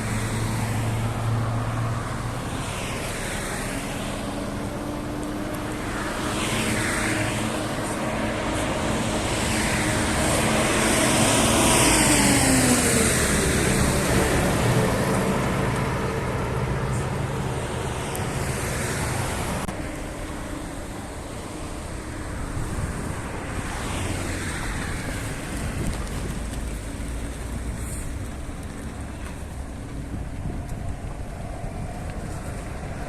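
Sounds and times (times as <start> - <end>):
vehicles driving past: 0.0 - 33.0.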